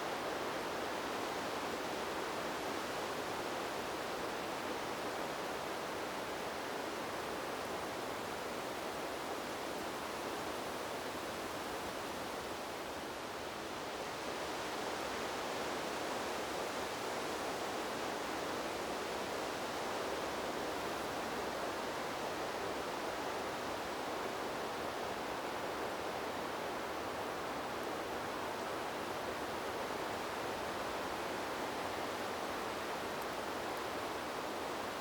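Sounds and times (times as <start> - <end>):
wind blowing through trees: 0.0 - 35.0.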